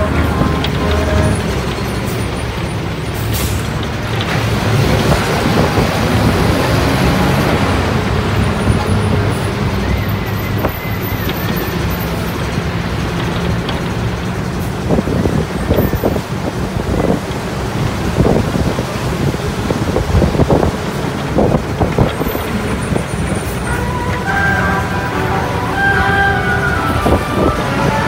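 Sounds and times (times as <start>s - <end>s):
steady roar of traffic: 0.0s - 28.0s.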